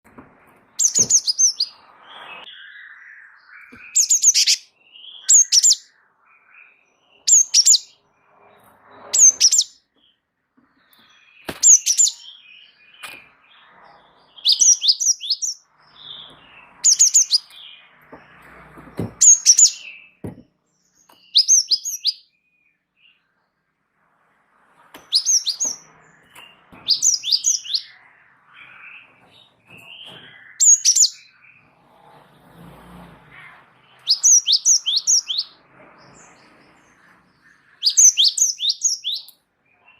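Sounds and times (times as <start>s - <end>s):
songbird high falling chirps: 0.1s - 8.1s, 9.0s - 23.3s, 25.0s - 31.6s, 33.8s - 39.9s
faint lower bird twittering: 0.4s - 39.9s.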